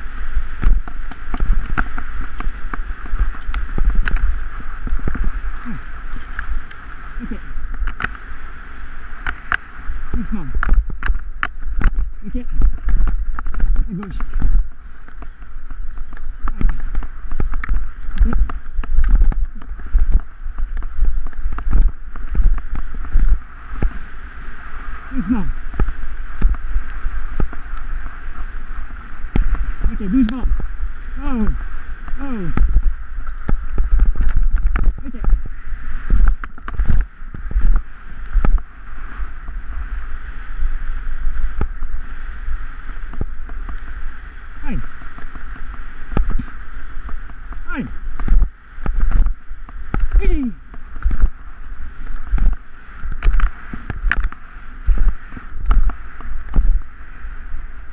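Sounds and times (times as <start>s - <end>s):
scooter rattling over rough trail: 0.0s - 56.8s
wind buffeting microphone: 0.0s - 57.9s.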